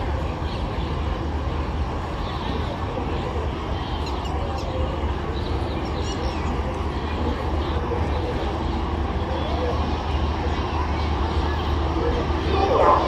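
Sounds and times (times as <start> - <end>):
murmur of distant crowd: 0.0 - 13.0.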